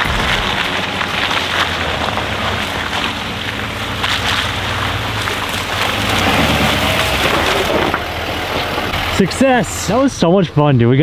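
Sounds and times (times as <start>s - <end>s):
pickup truck engine drone: 0.0s - 10.6s
tyres rolling through mud: 0.0s - 11.0s.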